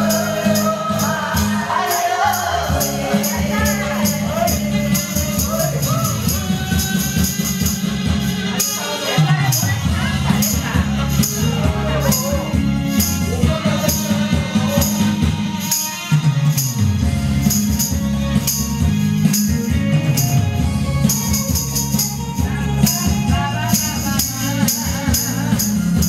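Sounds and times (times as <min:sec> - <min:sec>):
person singing: 0:00.0 - 0:16.2, 0:19.4 - 0:26.0
karaoke music with thumping beat: 0:00.0 - 0:26.0
tambourine shaking: 0:00.0 - 0:26.0.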